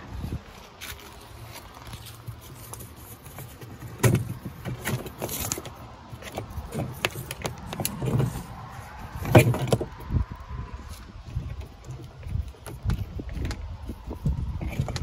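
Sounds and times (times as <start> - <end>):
handling clicks and knocks: 1.9 - 10.0, 10.9 - 15.0.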